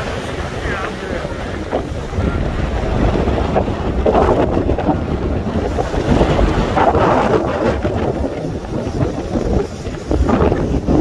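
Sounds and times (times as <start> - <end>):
surf breaking on rocks: 0.0 - 11.0
wind buffeting microphone: 0.0 - 11.0.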